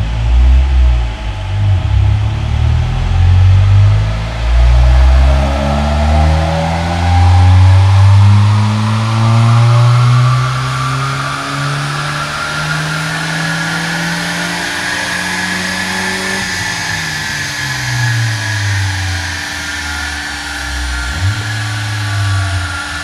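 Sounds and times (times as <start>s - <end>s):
car engine revving under load: 0.0s - 23.0s.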